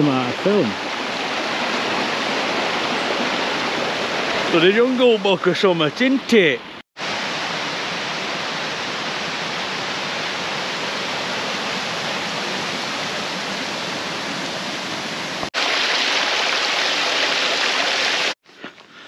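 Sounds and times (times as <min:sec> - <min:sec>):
rushing water: 0:00.0 - 0:18.4.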